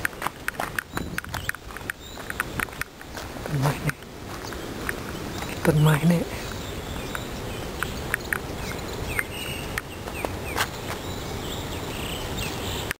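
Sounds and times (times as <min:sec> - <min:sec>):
bird chirps: 0:00.0 - 0:13.0
steady background hiss: 0:00.0 - 0:13.0.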